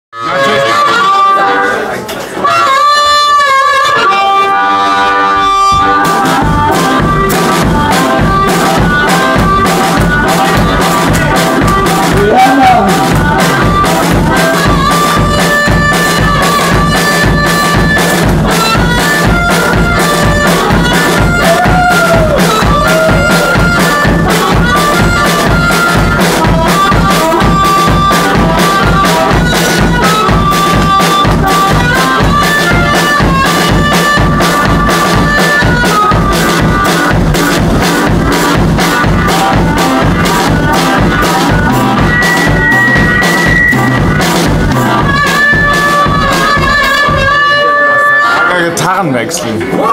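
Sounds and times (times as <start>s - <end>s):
blues harmonica: 0.2s - 48.8s
fast drum beat: 5.6s - 47.7s.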